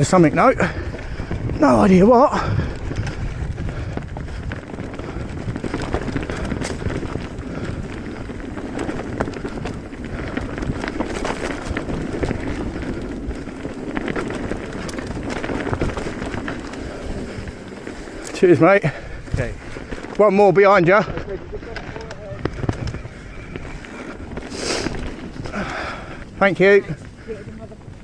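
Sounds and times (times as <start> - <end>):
bike clicks and rattles: 0.0 - 28.0
tyres rolling on dirt: 0.0 - 28.0
wind noise on microphone: 0.0 - 28.0.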